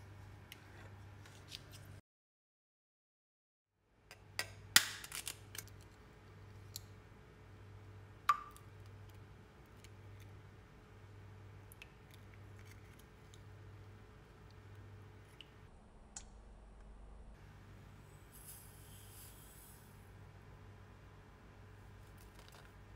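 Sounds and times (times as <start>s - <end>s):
low steady hum: 3.9s - 22.9s.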